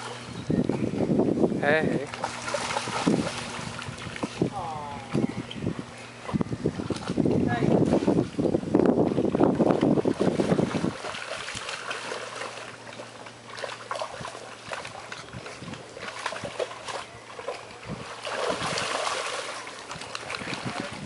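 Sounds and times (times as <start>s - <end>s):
dogs splashing through water: 2.0s - 5.6s, 6.2s - 8.2s, 9.0s - 21.0s.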